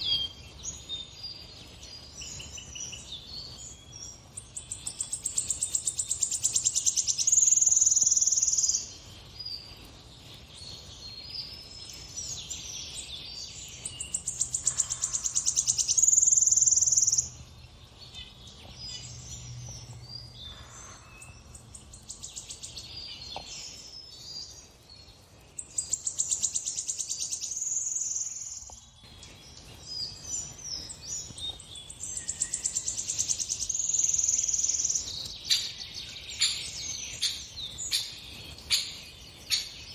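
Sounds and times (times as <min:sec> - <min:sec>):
bird chirps and twitters: 0:00.0 - 0:39.9.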